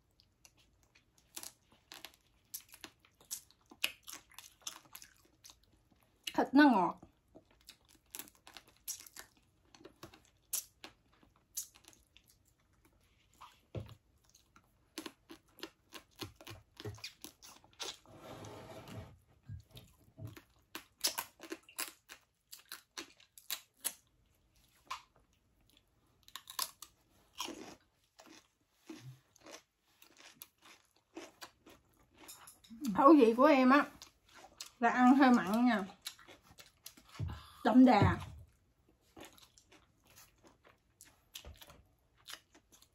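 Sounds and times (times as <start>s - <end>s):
wet chewing: 0.1s - 6.4s, 7.0s - 18.0s, 19.6s - 33.0s, 33.9s - 37.6s, 38.4s - 42.9s.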